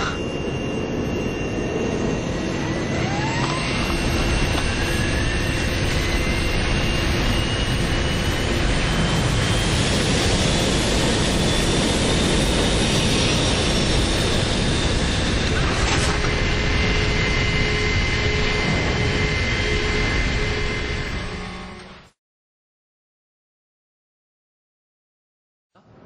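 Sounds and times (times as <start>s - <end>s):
jet engines spooling up: 0.0s - 22.2s.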